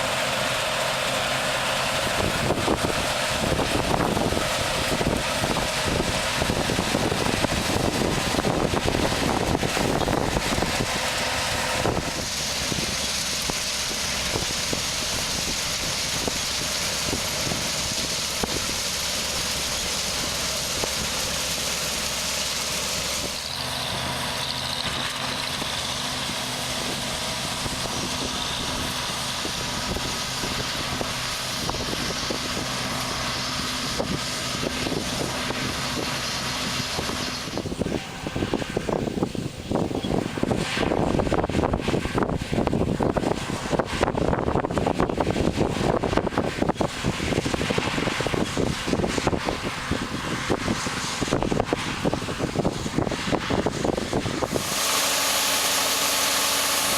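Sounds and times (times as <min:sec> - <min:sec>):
combine harvester running: 0:00.0 - 0:56.9
low engine hum: 0:00.0 - 0:56.9
machinery hissing: 0:00.0 - 0:56.9.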